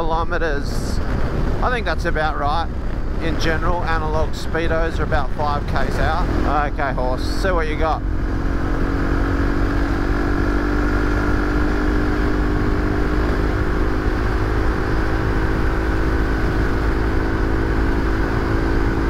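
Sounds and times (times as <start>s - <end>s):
wind rush over microphone: 0.0s - 19.0s
motorcycle engine running hard: 0.9s - 19.0s.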